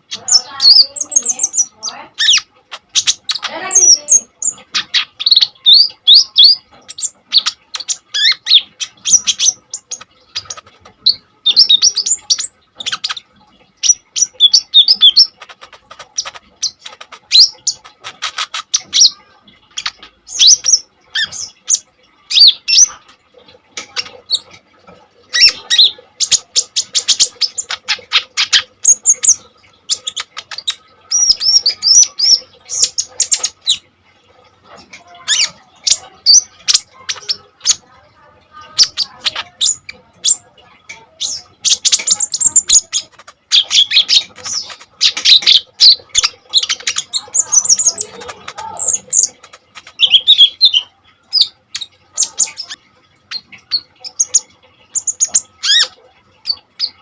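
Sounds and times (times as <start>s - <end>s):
bird twittering and trilling: 0.0s - 57.0s.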